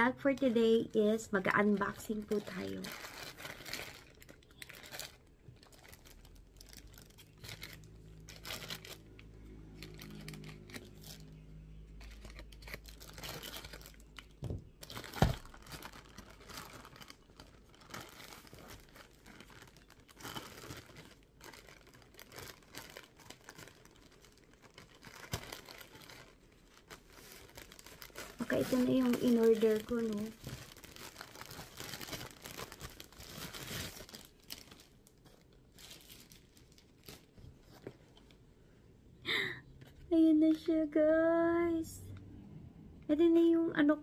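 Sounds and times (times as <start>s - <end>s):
plastic bag crinkling: 0.0s - 38.4s.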